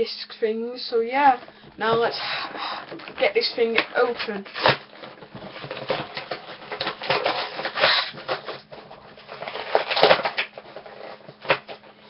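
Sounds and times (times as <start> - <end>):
packaging rustling and scraping: 1.1 - 12.0.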